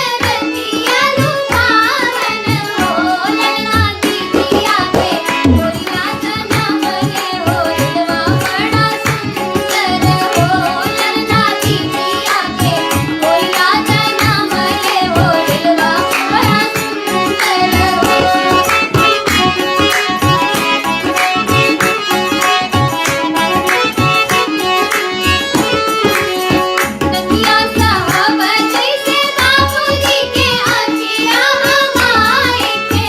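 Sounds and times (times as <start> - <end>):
devotional song singing: 0.0 - 33.0
tabla rhythm: 0.0 - 33.0.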